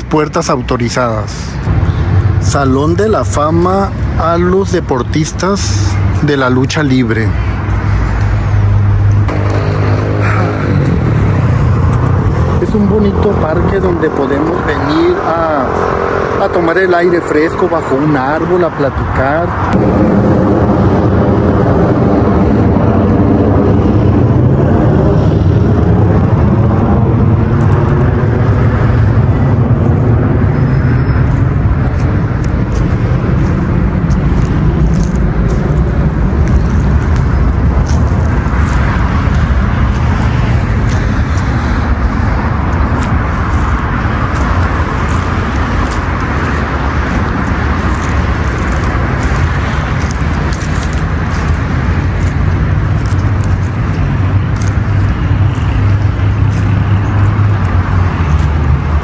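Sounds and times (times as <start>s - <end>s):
road traffic rumble: 0.0s - 59.0s
vehicle passing: 1.0s - 59.0s.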